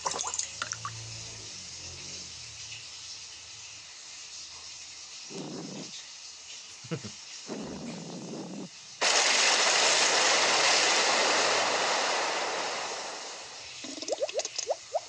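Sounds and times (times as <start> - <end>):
pipe hissing: 0.0 - 15.0
water gushing: 0.0 - 15.0.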